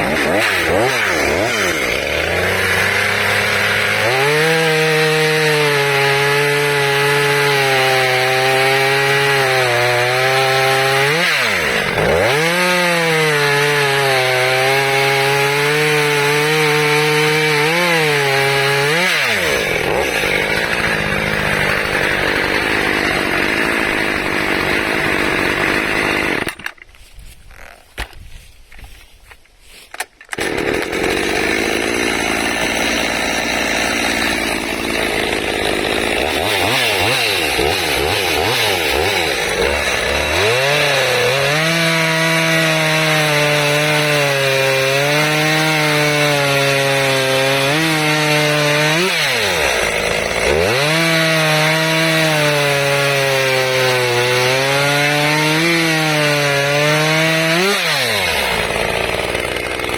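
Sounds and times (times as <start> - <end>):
chainsaw cutting wood: 0.0 - 28.2, 29.7 - 59.9.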